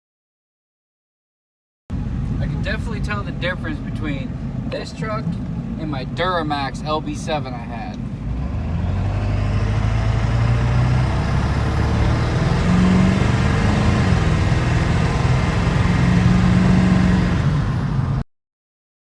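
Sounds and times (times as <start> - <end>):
diesel truck engine running: 1.9 - 18.2.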